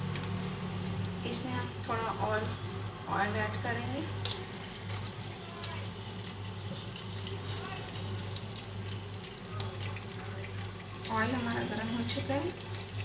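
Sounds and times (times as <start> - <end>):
oil crackling and sizzling in pan: 0.0 - 13.0.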